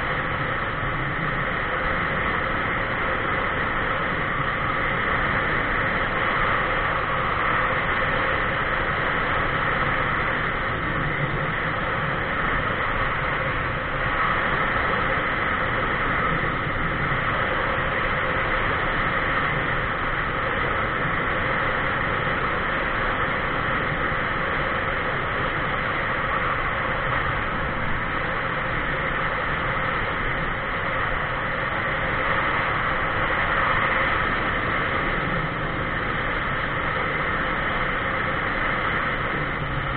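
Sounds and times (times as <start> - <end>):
vehicle wind and road noise: 0.0 - 39.9.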